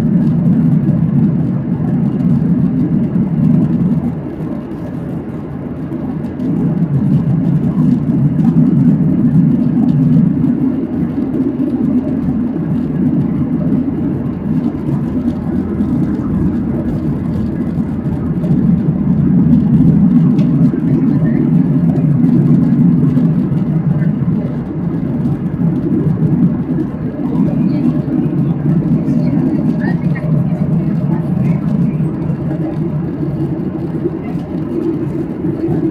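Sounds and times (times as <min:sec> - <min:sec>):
airplane cabin engine roar: 0:00.0 - 0:35.9.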